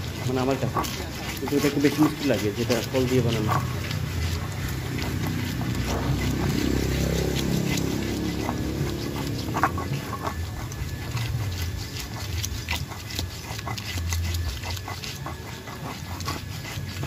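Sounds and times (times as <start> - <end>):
pestle scraping in mortar: 0.0 - 17.0.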